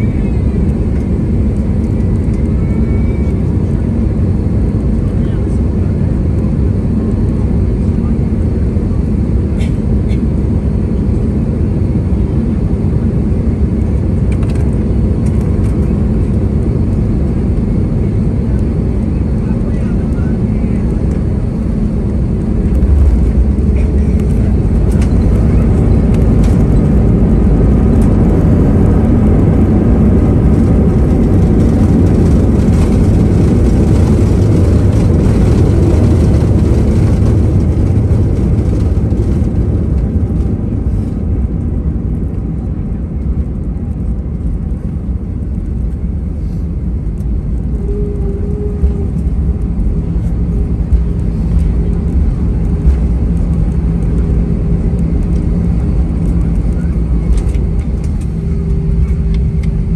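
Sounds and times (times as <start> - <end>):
engine hum with steady tone: 0.0 - 59.9
jet engines roaring: 0.0 - 59.9
runway rumble: 0.0 - 59.9.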